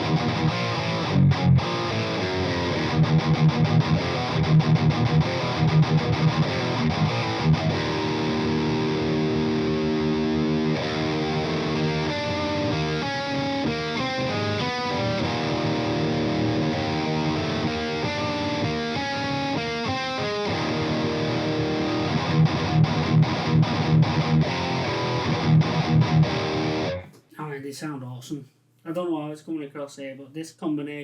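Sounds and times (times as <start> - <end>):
distorted electric guitar riff: 0.0 - 27.2.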